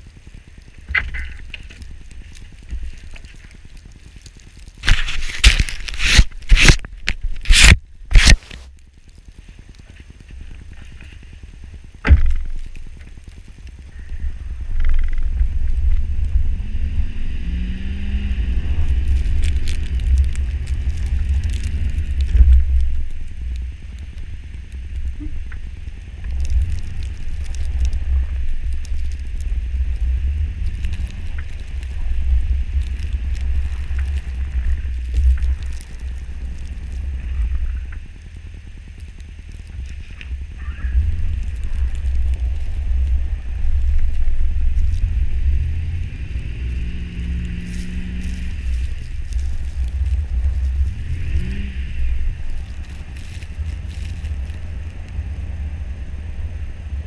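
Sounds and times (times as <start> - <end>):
vehicle engine rumble: 0.0 - 57.0
wind buffeting camera: 10.1 - 57.0.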